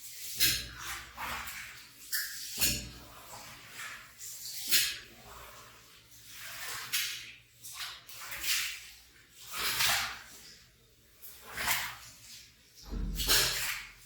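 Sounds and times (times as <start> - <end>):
wet rug swishing strokes: 0.0 - 10.6, 11.2 - 14.0
water squishing: 0.0 - 14.0.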